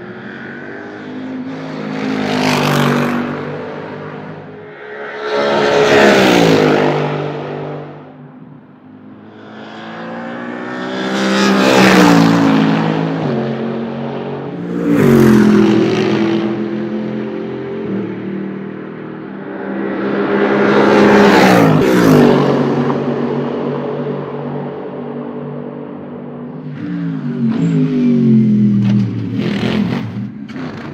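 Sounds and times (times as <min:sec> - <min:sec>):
distant race car engines: 0:00.0 - 0:30.9
race cars passing at speed: 0:00.0 - 0:30.9.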